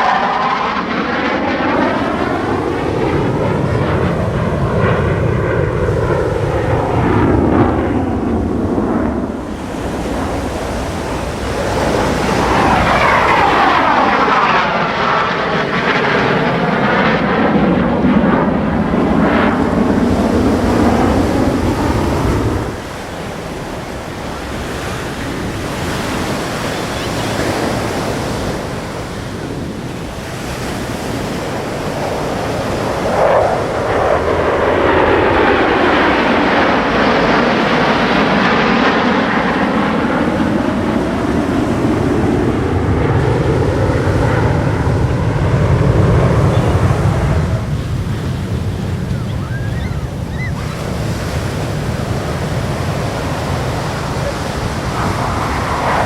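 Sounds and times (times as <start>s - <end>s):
jet engines roaring overhead: 0.0s - 56.0s
wind on microphone: 0.0s - 56.0s.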